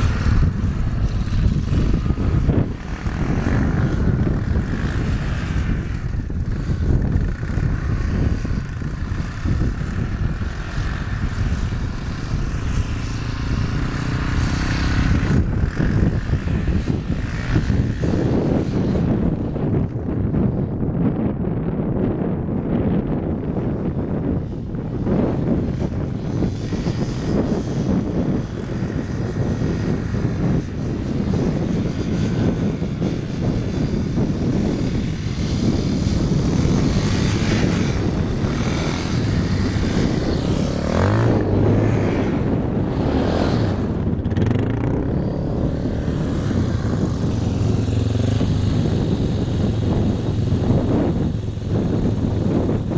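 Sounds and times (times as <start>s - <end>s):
atv engines revving: 0.0s - 20.8s, 23.4s - 52.9s.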